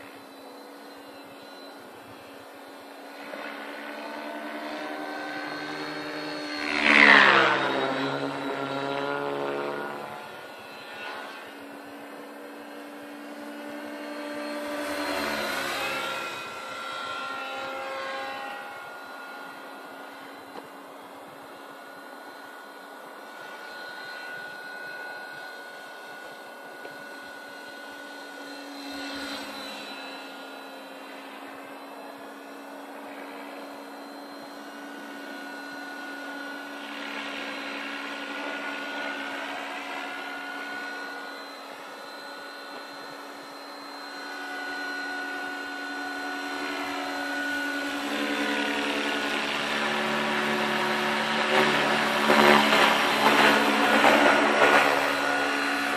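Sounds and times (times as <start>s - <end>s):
model helicopter rotor whine: 0.0s - 55.9s.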